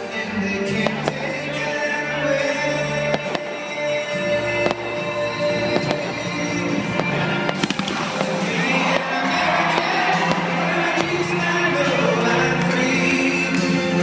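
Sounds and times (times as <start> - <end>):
fireworks popping and crackling: 0.0 - 1.8, 3.0 - 14.0
loud music with held tones: 0.0 - 14.0.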